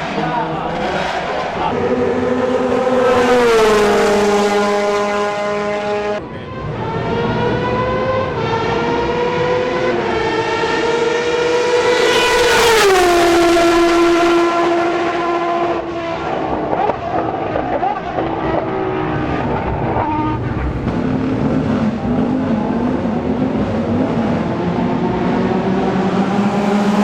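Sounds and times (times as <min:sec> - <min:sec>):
race car accelerating with gear changes: 0:00.0 - 0:27.0
race cars passing at speed: 0:00.0 - 0:27.0.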